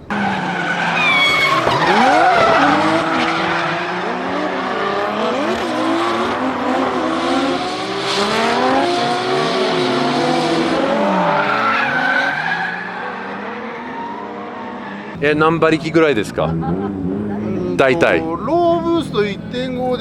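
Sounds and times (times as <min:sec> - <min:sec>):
car engines revving: 0:00.0 - 0:20.0
tyres squealing: 0:00.0 - 0:20.0.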